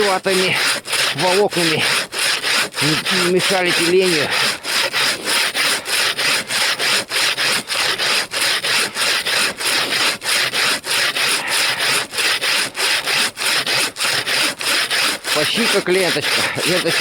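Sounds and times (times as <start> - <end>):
bow saw cutting wood: 0.0 - 17.0.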